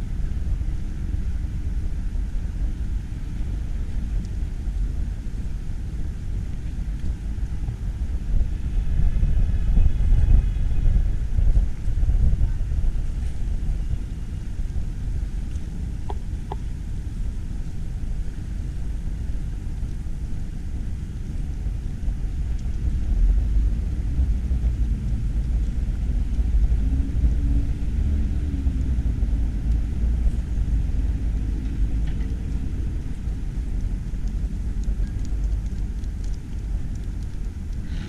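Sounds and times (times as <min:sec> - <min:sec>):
faint hum: 0:00.0 - 0:38.0
low rumble: 0:00.0 - 0:38.0.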